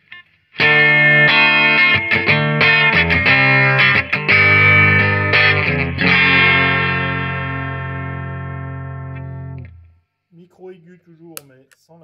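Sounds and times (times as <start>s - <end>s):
electric guitar chords: 0.0s - 10.0s.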